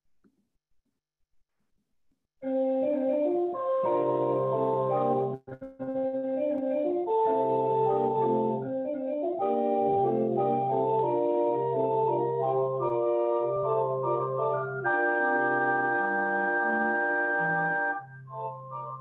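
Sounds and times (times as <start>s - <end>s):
organ playing chords: 2.8s - 5.4s, 6.1s - 19.0s.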